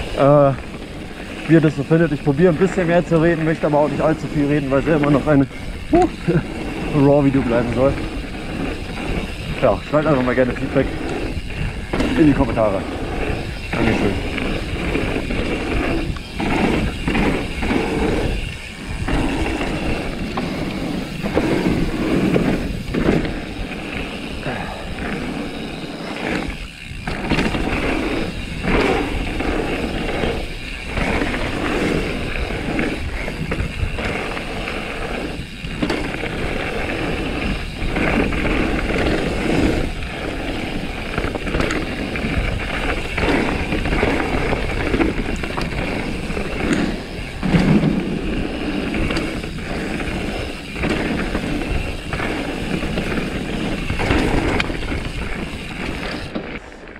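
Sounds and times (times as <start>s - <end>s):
mountain bike rattling on dirt trail: 0.0s - 56.9s.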